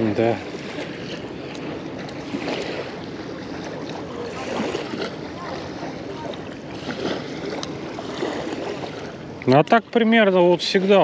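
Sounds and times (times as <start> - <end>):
waves lapping against shore: 0.0 - 11.0.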